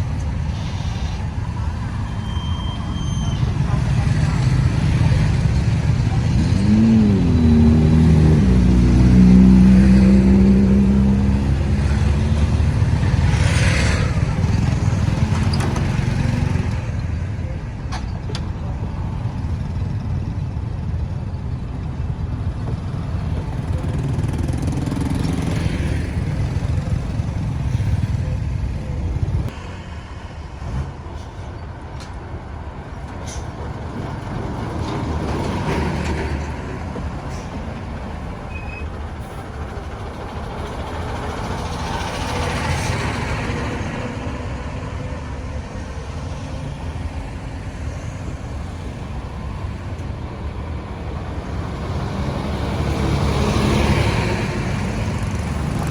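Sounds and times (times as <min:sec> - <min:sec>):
road traffic: 0:00.0 - 0:55.9
vehicles passing: 0:00.0 - 0:55.9.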